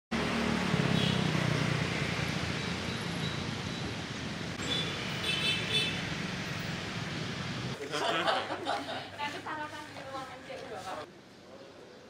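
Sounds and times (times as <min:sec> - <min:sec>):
traffic rumble: 0:00.1 - 0:12.0.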